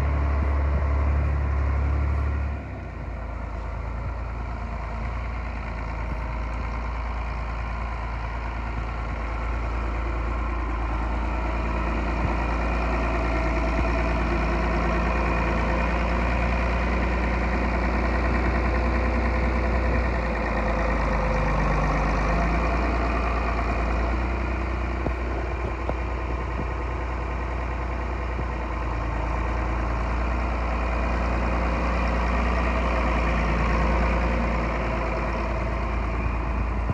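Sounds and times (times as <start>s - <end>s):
diesel engine running steadily: 0.0s - 36.9s.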